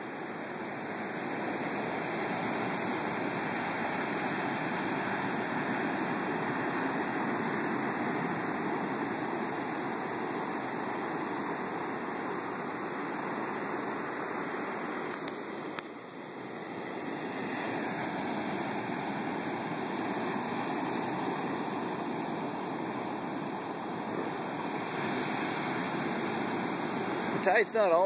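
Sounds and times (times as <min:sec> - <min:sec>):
surf breaking on beach: 0:00.0 - 0:28.0.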